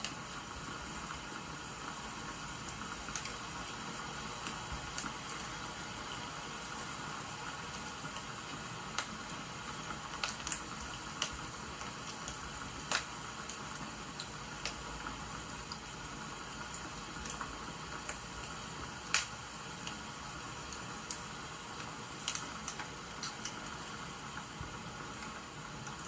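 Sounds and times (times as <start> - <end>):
rain hissing: 0.0 - 26.0
wood fire crackling: 0.0 - 26.0.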